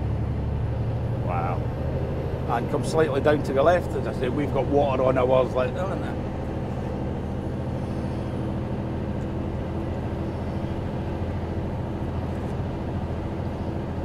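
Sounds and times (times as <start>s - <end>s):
lorry diesel engine drone: 0.0s - 14.0s
road noise: 0.0s - 14.0s.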